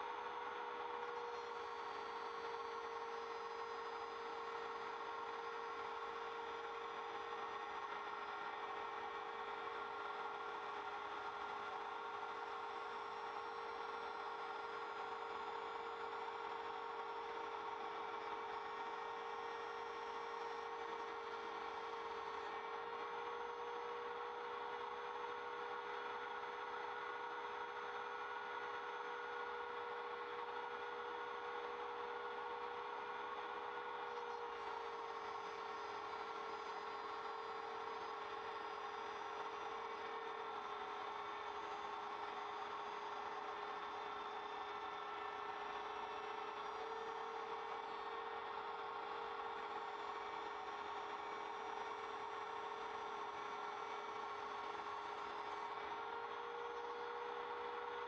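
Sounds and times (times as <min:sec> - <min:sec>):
router spindle high whine: 0:00.0 - 0:58.0.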